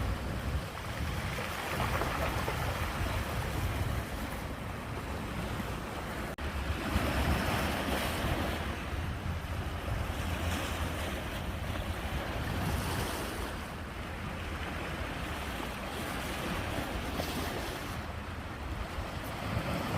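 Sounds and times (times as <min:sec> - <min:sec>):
ocean waves breaking on shore: 0:00.0 - 0:19.9
wind buffeting microphone: 0:00.0 - 0:19.9.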